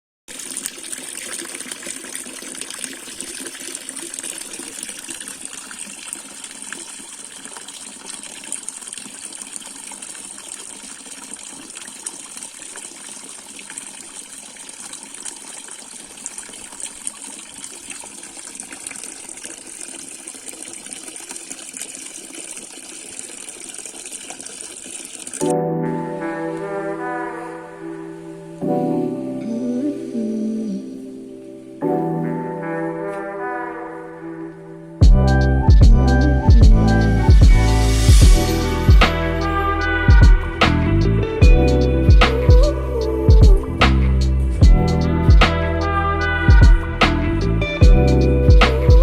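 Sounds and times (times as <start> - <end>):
running water rushing: 0.3 - 31.9, 36.5 - 49.0.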